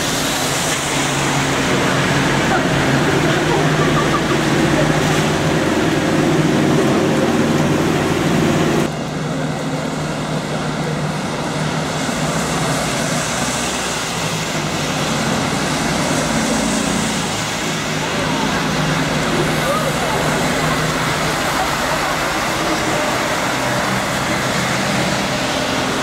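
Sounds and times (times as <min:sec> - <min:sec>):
bus engine running: 0:00.0 - 0:26.0
tyres hissing on wet street: 0:00.0 - 0:26.0.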